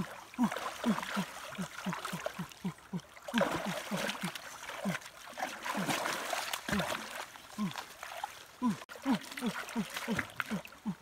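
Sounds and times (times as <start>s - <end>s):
water splashing around legs: 0.0s - 11.0s.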